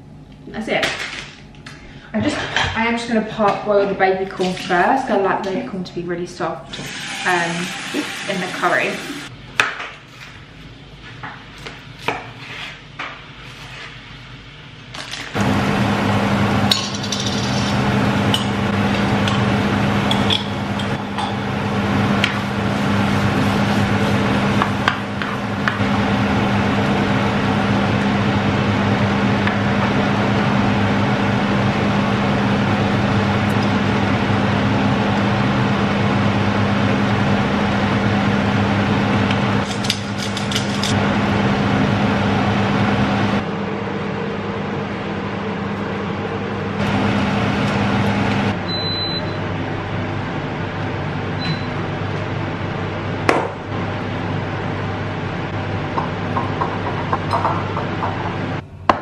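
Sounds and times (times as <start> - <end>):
low appliance hum: 0.0 - 59.0.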